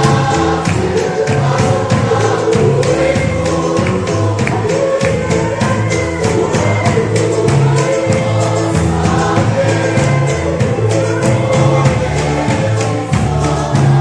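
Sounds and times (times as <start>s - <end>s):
choir singing gospel: 0.0s - 14.0s
steady beat: 0.0s - 14.0s.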